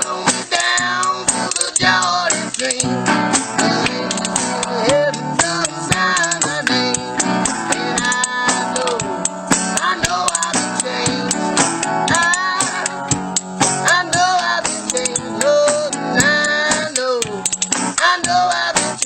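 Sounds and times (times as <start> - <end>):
guitar: 0.0 - 19.0
person singing: 0.0 - 19.0
spoons clicking as percussion: 0.0 - 19.0.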